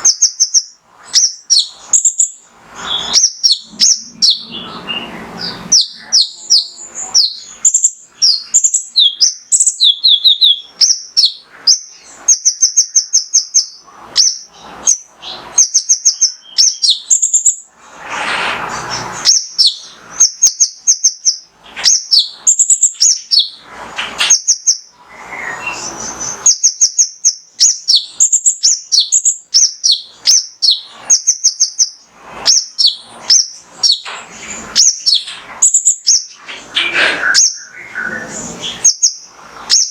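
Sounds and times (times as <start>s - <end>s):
bird chirps and trills: 0.0s - 39.9s
harsh rasping bird calls: 0.0s - 39.9s.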